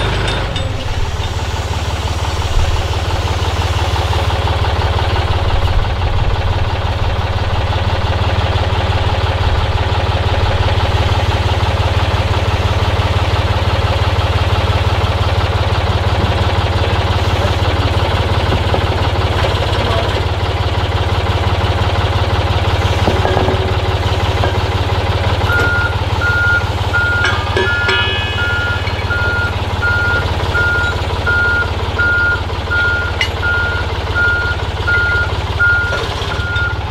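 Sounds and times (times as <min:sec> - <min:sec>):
forklift engine idling: 0:00.0 - 0:36.9.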